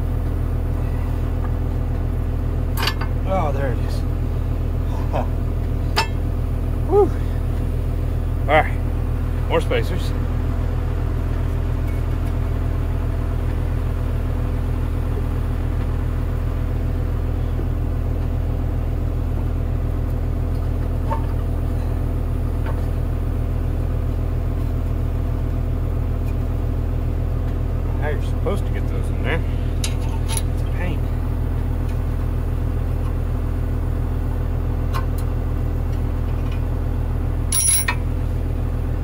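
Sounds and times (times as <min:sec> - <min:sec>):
heavy machine engine idling: 0:00.0 - 0:39.0.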